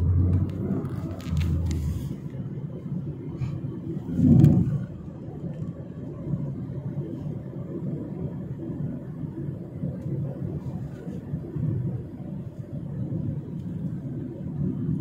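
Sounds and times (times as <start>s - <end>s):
vehicle cabin road rumble: 0.0s - 15.0s.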